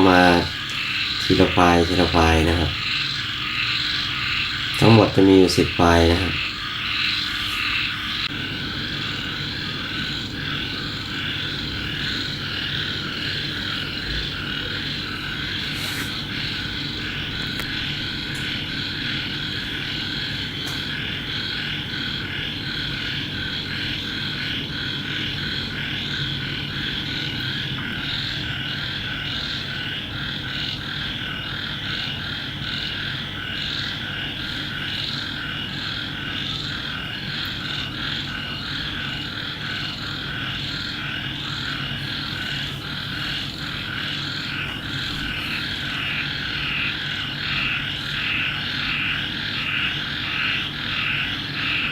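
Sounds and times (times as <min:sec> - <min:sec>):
chorus of calling animals: 0:00.0 - 0:51.9.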